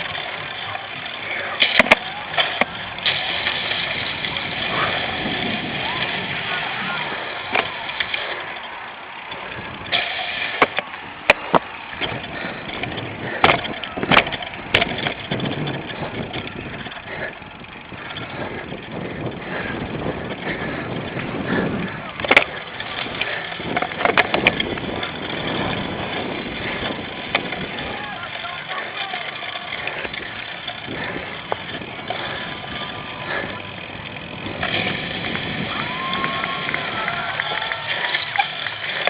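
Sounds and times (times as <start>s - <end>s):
bike knocks and clatters: 0.0s - 39.0s
steady rushing noise: 0.0s - 39.0s.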